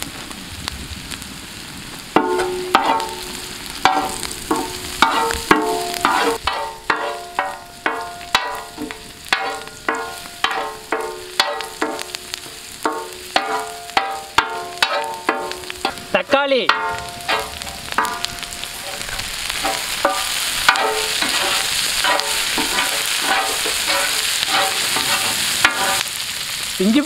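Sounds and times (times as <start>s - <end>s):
food sizzling in oil: 0.0s - 27.0s
metal spoon scraping pan: 2.2s - 12.1s, 12.8s - 16.1s, 16.7s - 26.1s
pan ringing: 2.2s - 19.0s, 19.6s - 24.8s.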